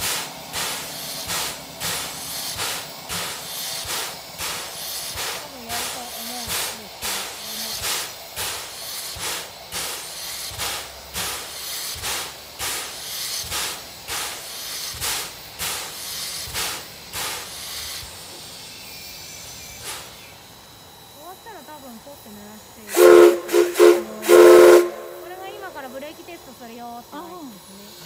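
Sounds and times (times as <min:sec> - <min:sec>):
steam air pump puffing: 0:00.0 - 0:21.6, 0:22.9 - 0:28.0
steam hissing: 0:00.0 - 0:28.0.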